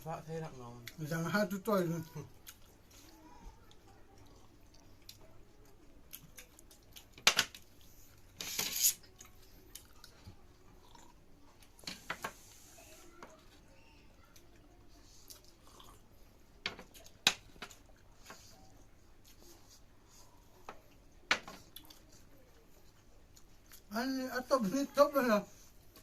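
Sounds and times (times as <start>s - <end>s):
quiet chewing: 2.2s - 8.4s, 9.0s - 23.9s.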